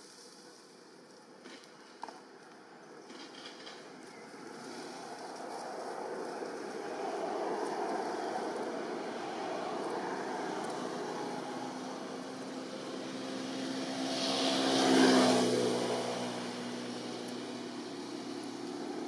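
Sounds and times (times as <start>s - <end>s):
motor engine passing by: 3.1s - 19.0s.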